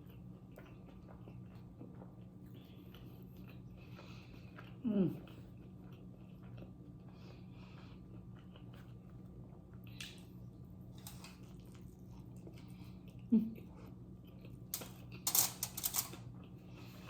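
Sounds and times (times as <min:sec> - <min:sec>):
close chewing: 0:00.0 - 0:15.2.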